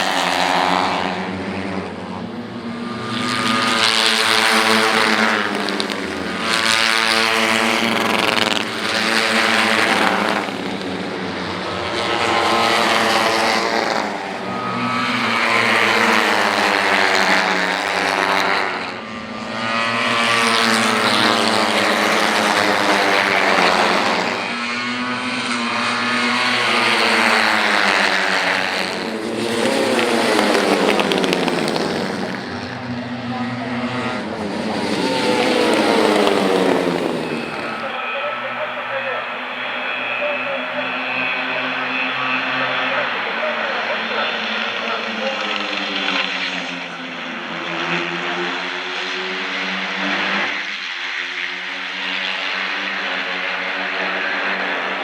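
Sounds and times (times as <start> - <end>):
racing motorcycle engines revving: 0.0 - 55.0.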